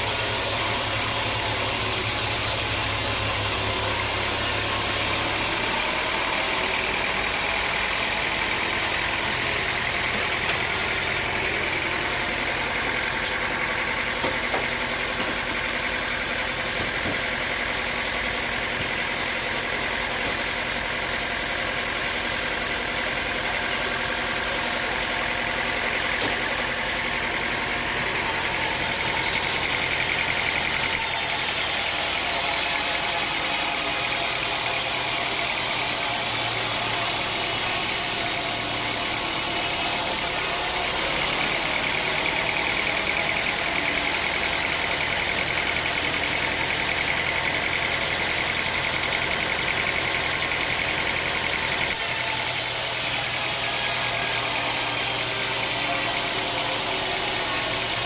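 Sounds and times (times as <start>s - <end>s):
sawmill motor whining: 0.0s - 58.0s.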